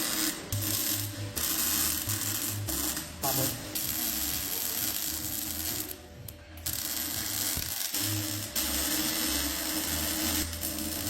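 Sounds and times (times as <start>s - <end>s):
crackling hiss of workshop tools: 0.0s - 6.0s, 6.7s - 11.0s.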